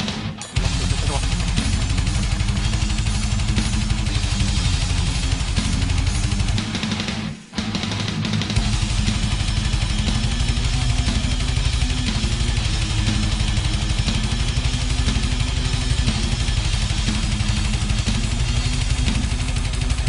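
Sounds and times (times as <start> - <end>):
distorted electric guitar riff: 0.0 - 20.0
fast dense low beat: 0.2 - 20.0.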